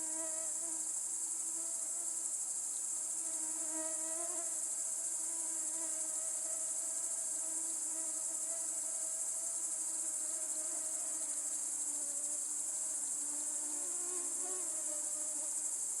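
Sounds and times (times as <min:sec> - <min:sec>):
flying insect buzzing: 0:00.0 - 0:16.0
insects trilling chorus: 0:00.0 - 0:16.0.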